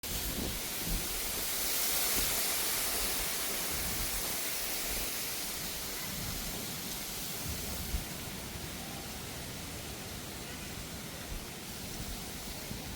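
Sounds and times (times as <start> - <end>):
rain falling: 0.0 - 12.9.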